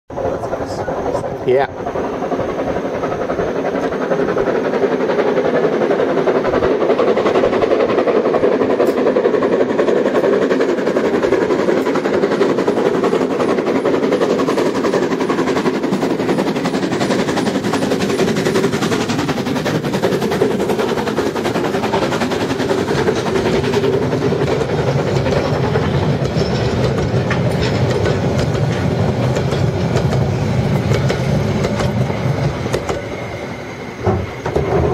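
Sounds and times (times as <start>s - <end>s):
steam locomotive exhaust chuffing: 0.1s - 34.9s
wheels clicking over rail joints: 2.7s - 33.1s.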